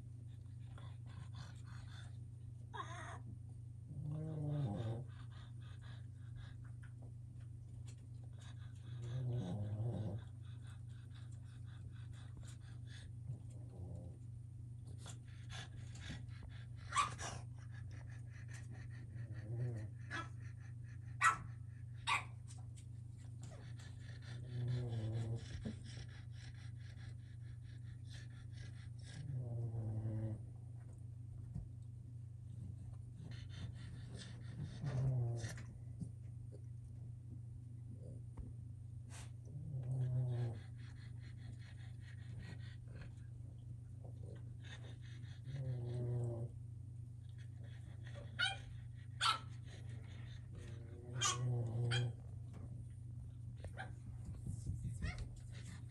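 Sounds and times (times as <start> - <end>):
steady low hum: 0.0 - 55.9
puppy vocal noises: 0.6 - 3.3, 3.9 - 7.1, 7.8 - 30.6, 32.7 - 36.0, 39.1 - 46.6, 47.2 - 55.9.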